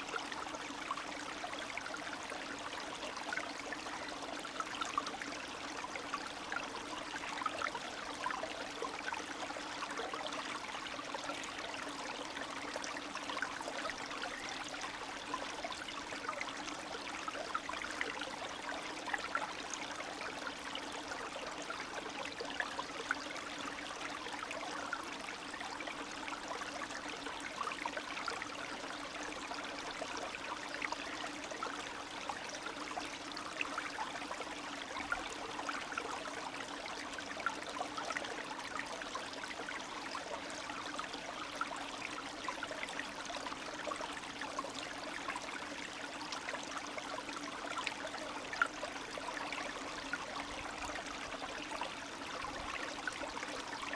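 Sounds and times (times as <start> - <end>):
stream babbling over stones: 0.0 - 53.9.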